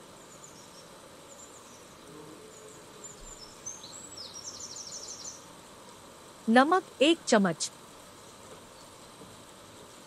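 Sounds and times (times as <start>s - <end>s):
low background hiss: 0.0s - 10.0s
small birds chirping: 0.1s - 7.4s, 8.1s - 9.1s.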